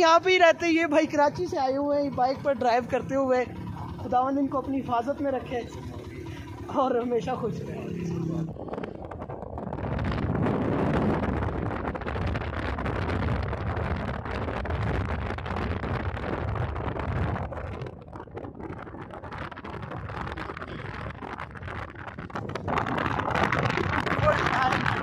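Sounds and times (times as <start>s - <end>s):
vehicle road noise: 0.0s - 25.0s
wind on microphone: 0.0s - 25.0s.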